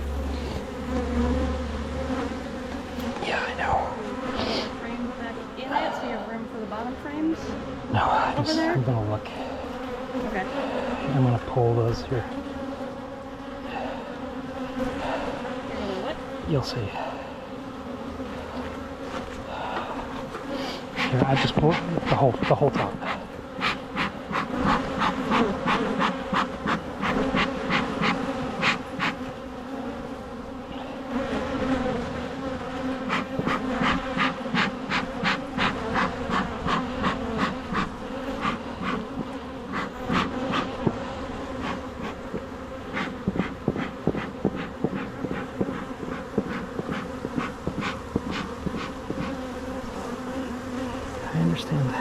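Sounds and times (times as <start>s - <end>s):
honeybees buzzing: 0.0s - 52.0s.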